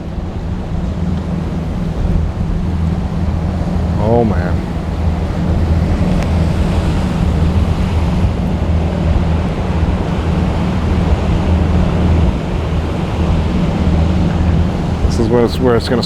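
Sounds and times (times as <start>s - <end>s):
low rumble: 0.0s - 16.0s
rough surf: 0.0s - 16.0s
wind buffeting microphone: 0.0s - 16.0s.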